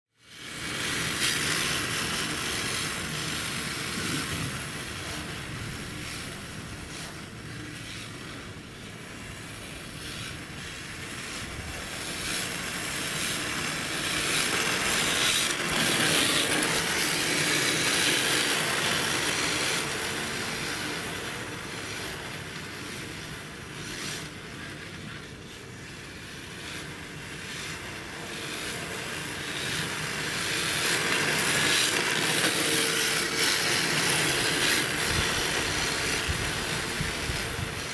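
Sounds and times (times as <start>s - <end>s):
electric drivetrain whir: 0.2s - 37.9s
drift tyres scraping asphalt: 0.3s - 37.9s.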